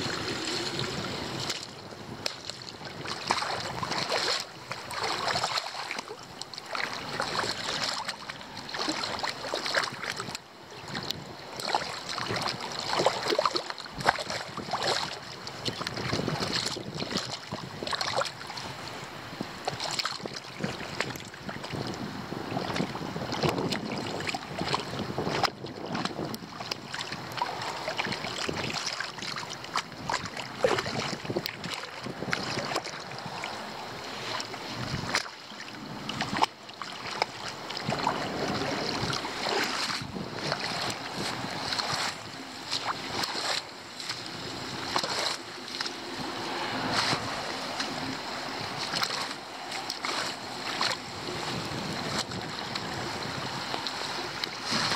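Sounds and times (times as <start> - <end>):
floodwater splashing at a drain: 0.0 - 54.9.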